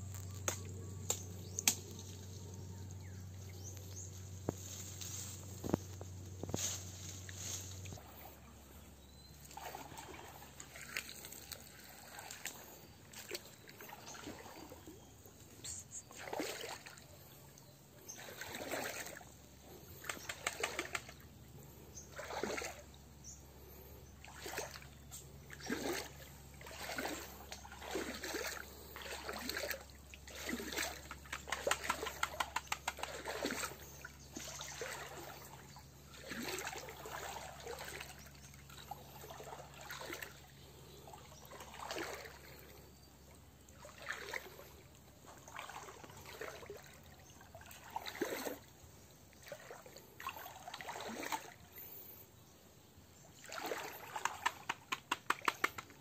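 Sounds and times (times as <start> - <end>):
wading through shallow water: 0.0 - 56.0.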